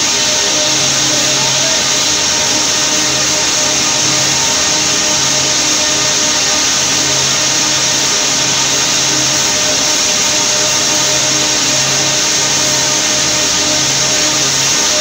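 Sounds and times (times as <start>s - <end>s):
forklift running: 0.0s - 15.0s
mill machinery hum and hiss: 0.0s - 15.0s.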